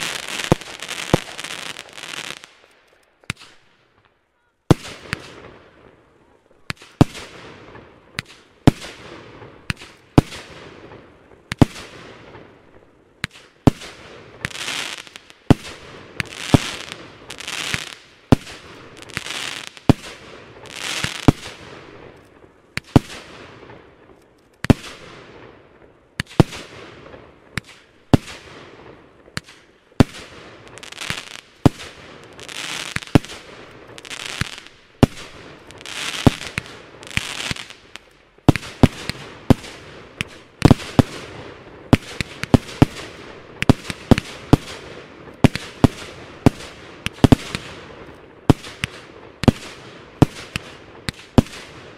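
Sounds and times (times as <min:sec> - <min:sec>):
fireworks bangs and crackle: 0:00.0 - 0:51.9.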